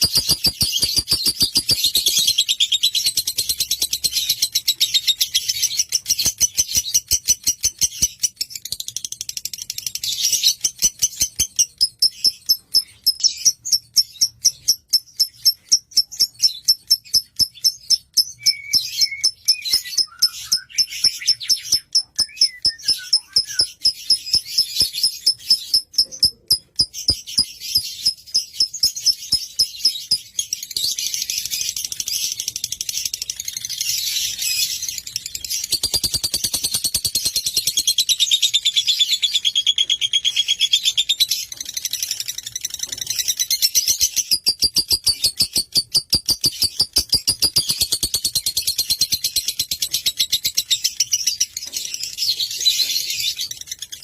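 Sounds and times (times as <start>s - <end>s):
lovebird chirping: 0.0s - 54.0s.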